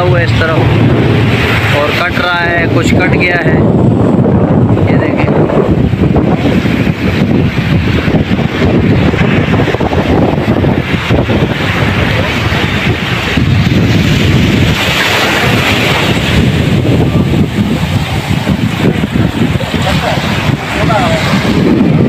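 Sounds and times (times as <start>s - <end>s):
strong wind buffeting microphone: 0.0s - 22.0s
waves washing onto beach: 0.0s - 22.0s.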